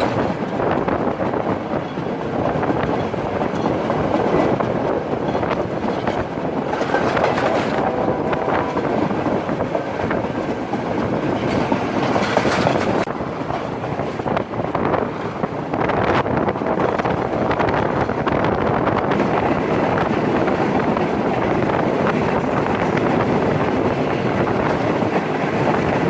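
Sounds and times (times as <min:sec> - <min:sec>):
train carriages rushing: 0:00.0 - 0:26.0
wheels clattering over rails: 0:00.0 - 0:26.0.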